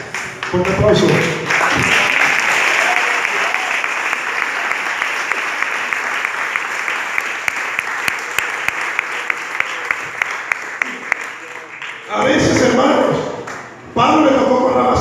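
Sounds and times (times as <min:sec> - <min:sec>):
congregation clapping: 0:00.0 - 0:13.9.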